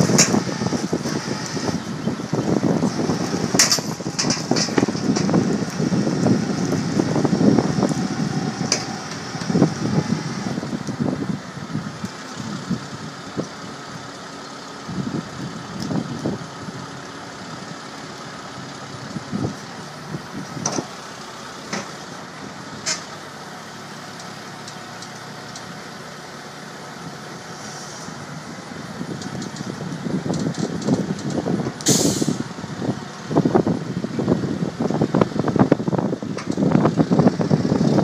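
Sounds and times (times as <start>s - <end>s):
diesel engine running: 0.0s - 38.0s
low rumbles: 0.0s - 38.0s.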